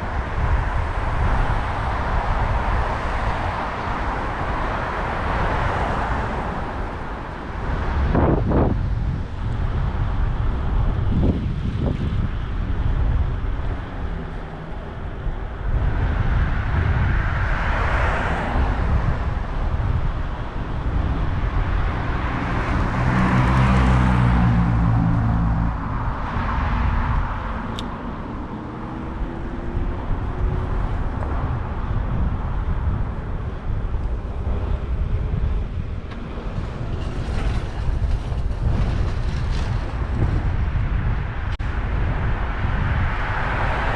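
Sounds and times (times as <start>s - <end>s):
motor vehicles passing: 0.0s - 43.9s
wind rumble on microphone: 0.0s - 43.9s.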